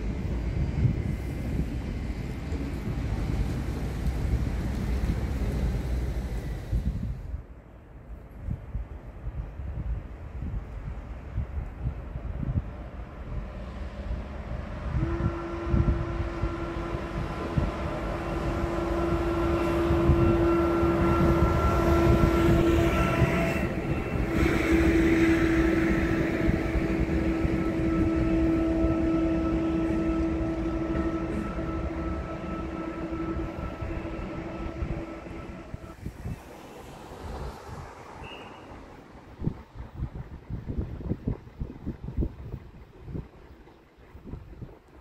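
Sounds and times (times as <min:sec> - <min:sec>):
electric locomotive hum and whine: 0:00.0 - 0:45.0
wheels rumbling on rails: 0:00.0 - 0:45.0.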